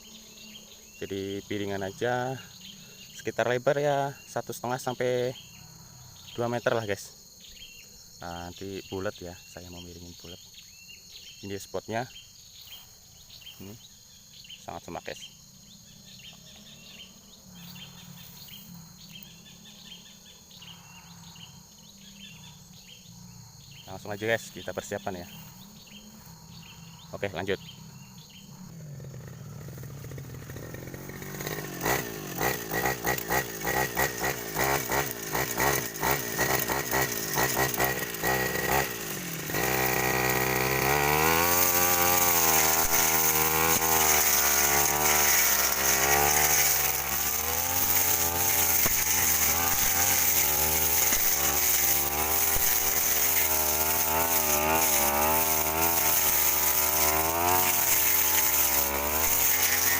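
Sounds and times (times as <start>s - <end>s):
brush cutter engine: 0.0s - 59.9s.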